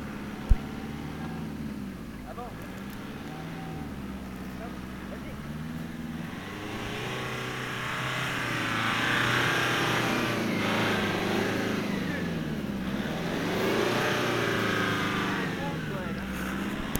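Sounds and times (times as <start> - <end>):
off-road engine revving: 0.0 - 16.9.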